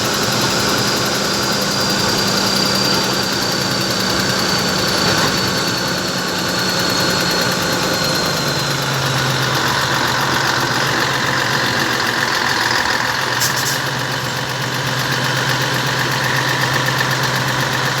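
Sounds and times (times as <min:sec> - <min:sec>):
diesel truck engine idling: 0:00.0 - 0:18.0
turbocharger whistling: 0:00.0 - 0:18.0.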